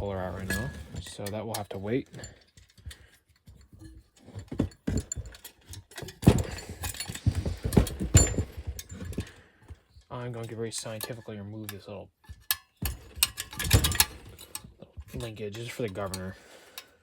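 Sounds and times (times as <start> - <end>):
metal clinks and knocks: 0.0 - 17.0.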